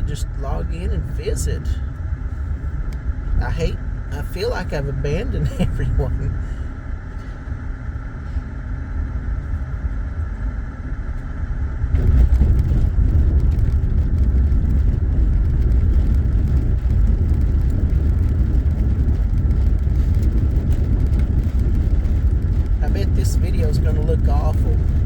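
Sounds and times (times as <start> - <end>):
car cabin road and engine noise: 0.0 - 25.0.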